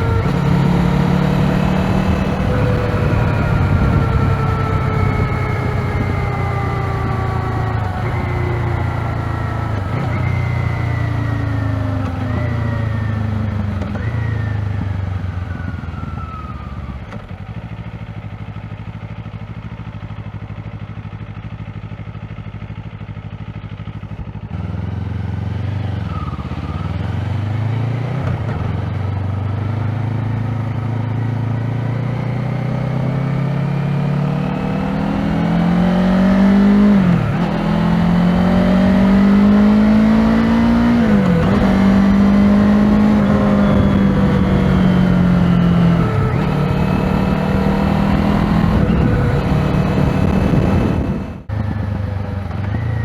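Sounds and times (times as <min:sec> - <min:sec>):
motorcycle engine revving and idling: 0:00.0 - 0:53.0.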